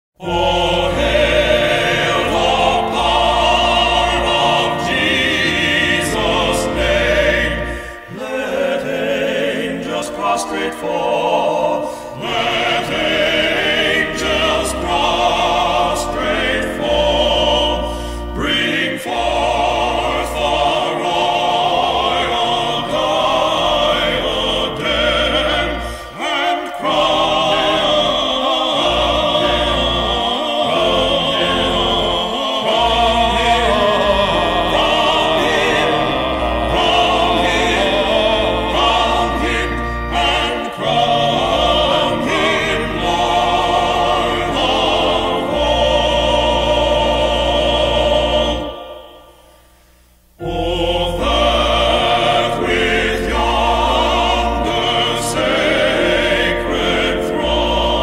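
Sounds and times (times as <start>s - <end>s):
male vocal quartet singing hymn: 0.2s - 49.6s, 50.4s - 58.0s.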